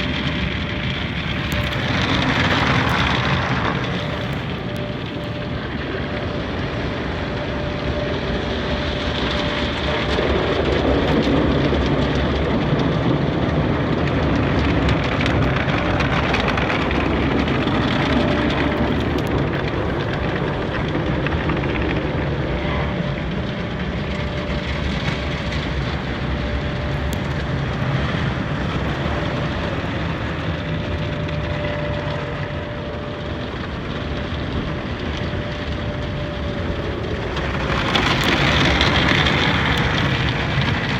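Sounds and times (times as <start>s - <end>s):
faint machine whine: 0.0s - 40.9s.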